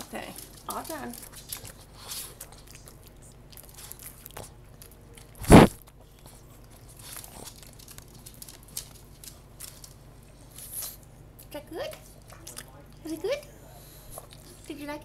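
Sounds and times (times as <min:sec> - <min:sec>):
dog chewing and licking: 0:00.0 - 0:13.2, 0:13.8 - 0:15.0.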